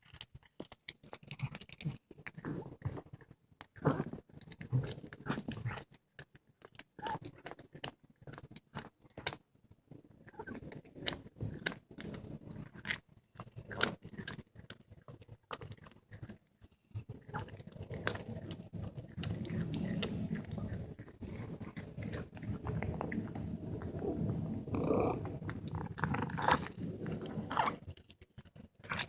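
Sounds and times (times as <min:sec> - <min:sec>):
cat chewing and crunching: 0:00.0 - 0:29.0.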